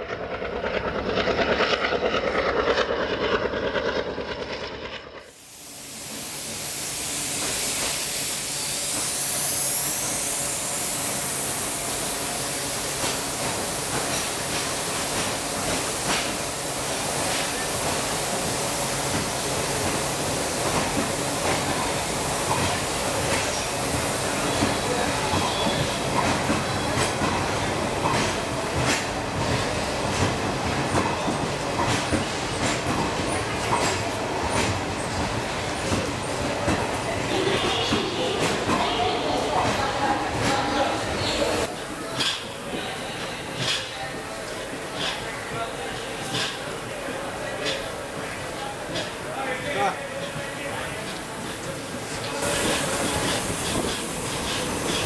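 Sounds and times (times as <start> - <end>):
train coaches rumbling: 0.0 - 55.0.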